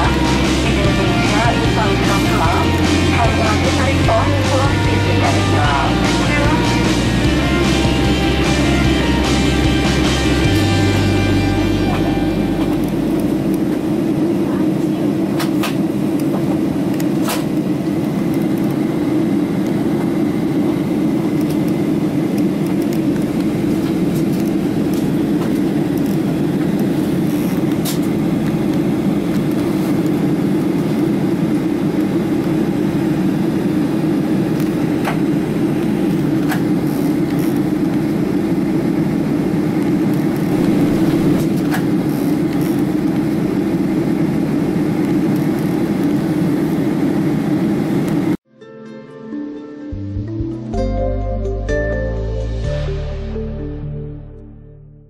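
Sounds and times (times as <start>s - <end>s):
airliner cabin drone: 0.0s - 48.4s.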